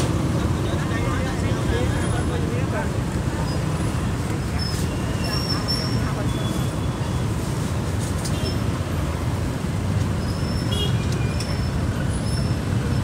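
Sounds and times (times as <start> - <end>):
passing engines rumbling: 0.0 - 13.0.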